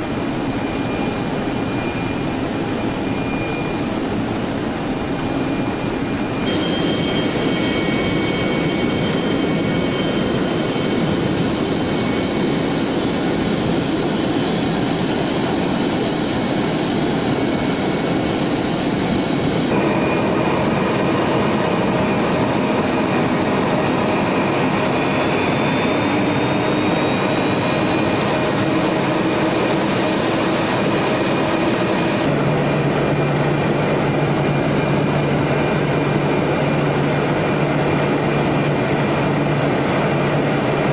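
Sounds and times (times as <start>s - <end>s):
jet engines roaring and whining: 0.0s - 40.9s.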